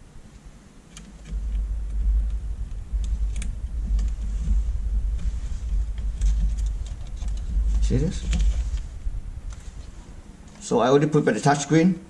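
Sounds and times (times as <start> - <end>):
low rumble: 1.1 - 11.4.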